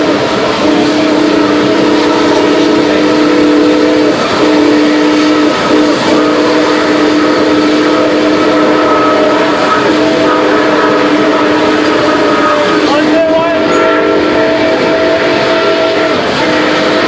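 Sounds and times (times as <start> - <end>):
steam train chime whistle: 0.0 - 17.0
train wheels rolling on rails: 0.0 - 17.0.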